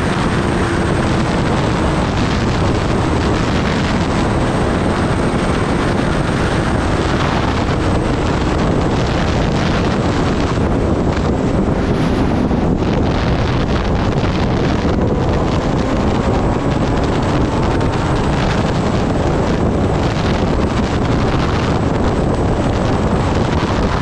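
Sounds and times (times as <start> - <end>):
motorcycle engine humming: 0.0 - 24.0
wind rushing on microphone: 0.0 - 24.0.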